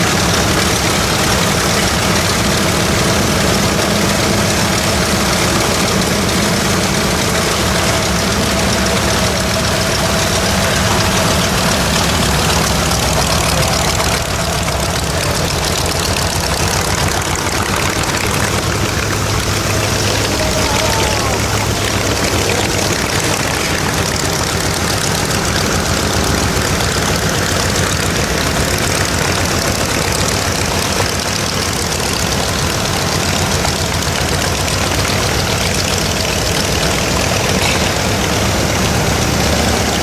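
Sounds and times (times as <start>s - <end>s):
radial aircraft engine running: 0.0s - 40.0s.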